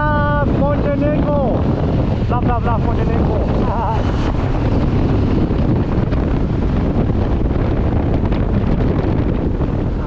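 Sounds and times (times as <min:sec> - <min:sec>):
motorcycle engine drone: 0:00.0 - 0:10.0
wind rush on microphone: 0:00.0 - 0:10.0.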